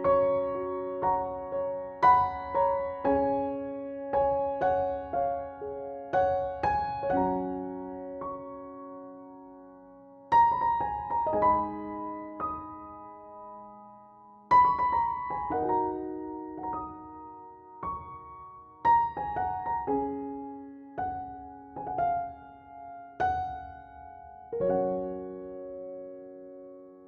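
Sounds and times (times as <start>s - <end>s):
slow soft piano: 0.0s - 27.0s.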